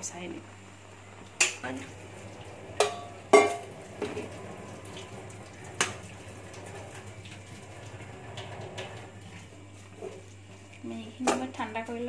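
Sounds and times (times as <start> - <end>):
water draining in colander: 1.2 - 11.9.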